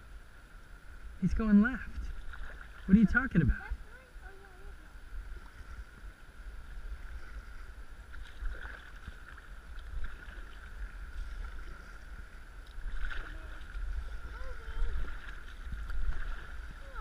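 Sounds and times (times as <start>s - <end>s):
river water rushing: 0.0s - 17.0s
wind rumble on microphone: 0.8s - 17.0s
paddle splashes: 1.8s - 17.0s.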